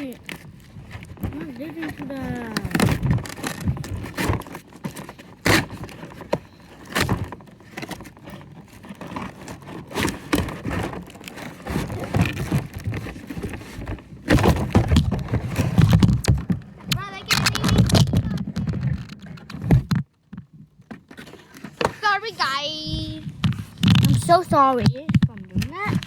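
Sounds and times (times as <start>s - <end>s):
packaging knocks and scrapes: 0.0s - 26.0s
packaging rubbing and scraping: 0.0s - 26.0s.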